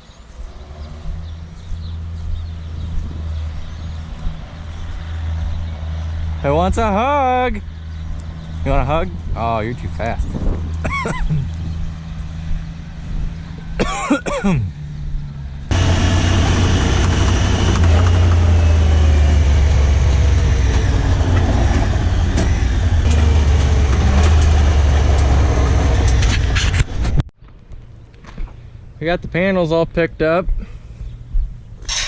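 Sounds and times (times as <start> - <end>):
vehicle engine running: 0.4 - 13.8, 14.6 - 27.2
loud low engine drone: 0.4 - 27.2.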